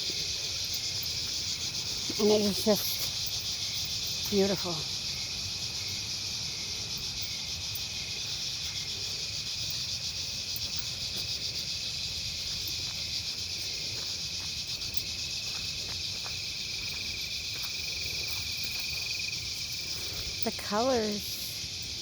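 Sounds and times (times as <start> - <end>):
crickets trilling: 0.0 - 22.0
high insect buzz: 0.0 - 22.0.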